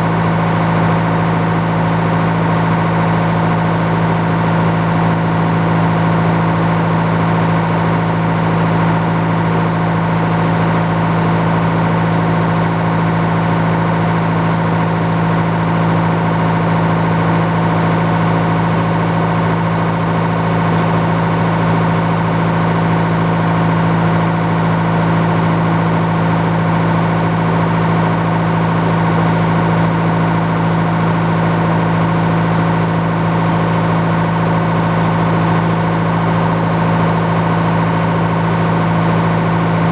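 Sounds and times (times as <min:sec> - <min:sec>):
sawmill running with steady hum: 0:00.0 - 0:39.9.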